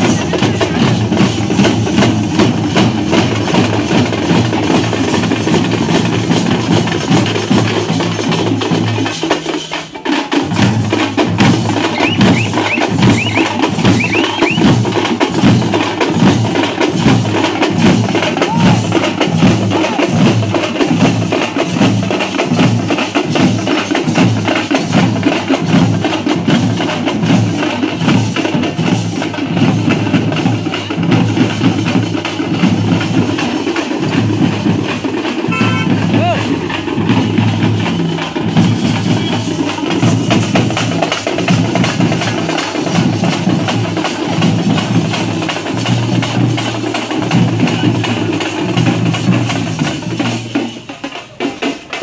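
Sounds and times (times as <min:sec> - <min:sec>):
drummers beating drums: 0:00.0 - 0:52.0.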